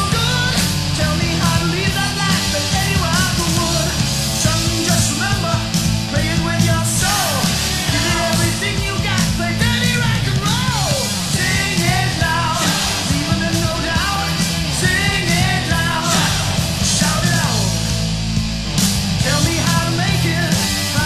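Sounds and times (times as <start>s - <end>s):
distorted electric guitars: 0.0s - 21.0s
hard rock music: 0.0s - 21.0s.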